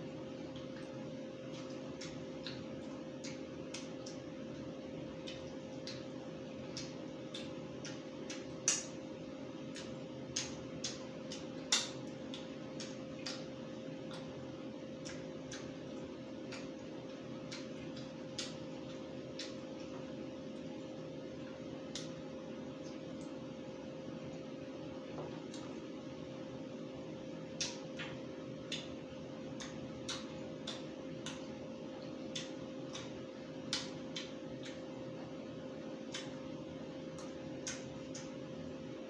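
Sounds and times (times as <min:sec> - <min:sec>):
chewing and handling chicken: 0:00.0 - 0:39.0
steady hum: 0:00.0 - 0:39.0.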